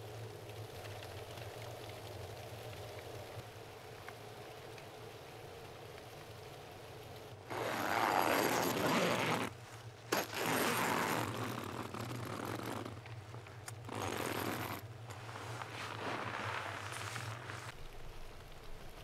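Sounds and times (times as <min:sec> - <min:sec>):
snowstorm hissing against tent fabric: 0:00.0 - 0:19.0.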